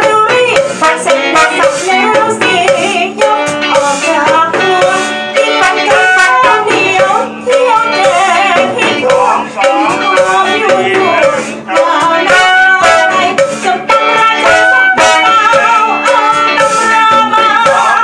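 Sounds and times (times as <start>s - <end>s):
drums keeping a beat: 0.0s - 18.0s
live band playing: 0.0s - 18.0s
woman singing into a microphone: 0.0s - 18.0s.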